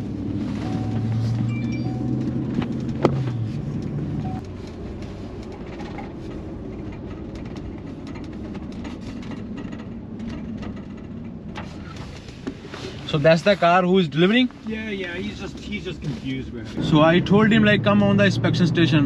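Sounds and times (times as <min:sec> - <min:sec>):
low vehicle engine rumble: 0:00.0 - 0:19.0.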